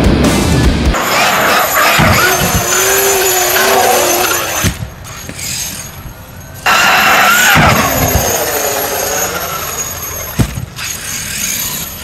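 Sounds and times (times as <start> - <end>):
electric motor whining: 1.0 - 12.0.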